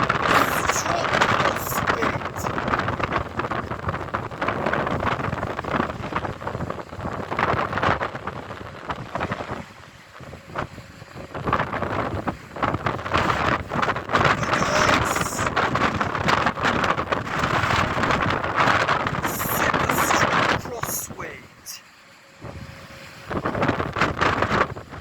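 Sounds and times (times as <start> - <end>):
gusty wind buffeting microphone: 0.0 - 20.8, 22.3 - 25.0.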